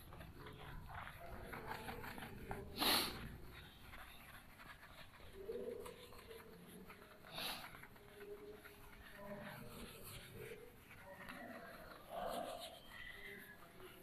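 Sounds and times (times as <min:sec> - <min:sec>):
duster wiping whiteboard: 0:00.0 - 0:14.0.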